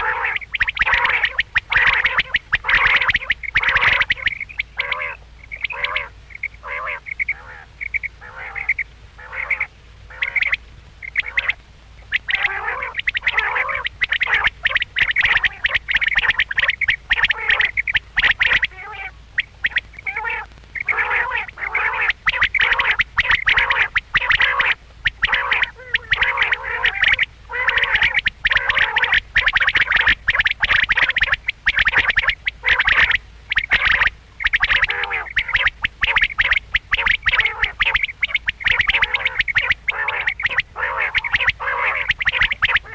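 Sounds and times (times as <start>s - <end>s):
quail calling: 0.0s - 42.9s.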